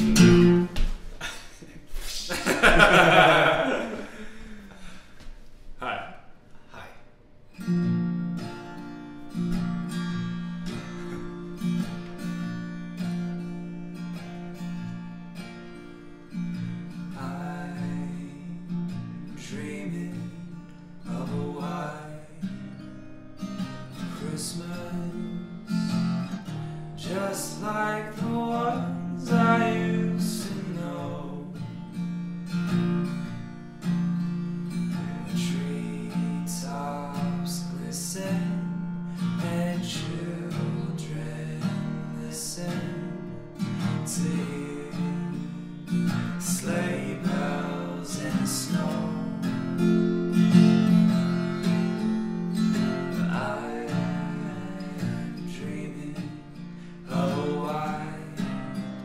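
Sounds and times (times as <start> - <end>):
acoustic guitar strumming: 0.0 - 1.2, 7.4 - 59.0.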